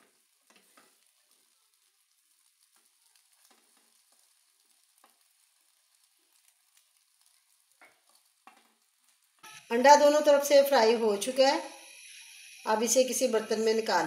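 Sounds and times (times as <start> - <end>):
egg sizzling in oil: 0.0 - 14.0.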